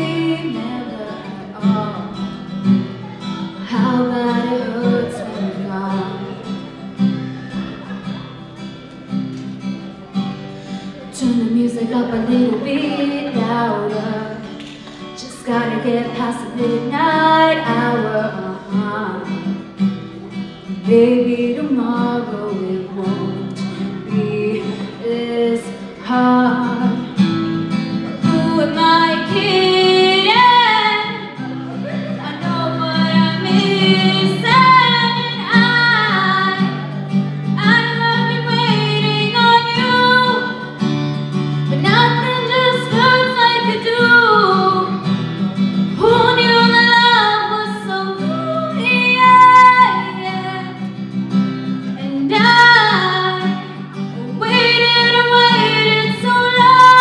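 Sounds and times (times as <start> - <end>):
woman singing into a microphone: 0.0 - 7.5, 10.6 - 19.6, 20.4 - 45.2, 45.8 - 57.0
acoustic guitar: 0.0 - 57.0.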